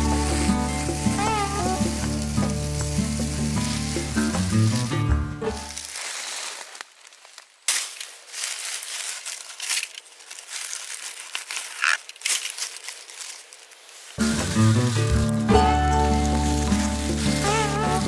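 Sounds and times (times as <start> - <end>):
dry leaves rustling: 0.0 - 18.0
sharp crackles: 0.0 - 18.0.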